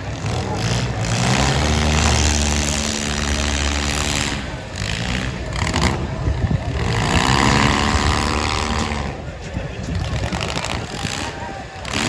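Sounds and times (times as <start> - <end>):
car engines running and revving: 0.0 - 12.0.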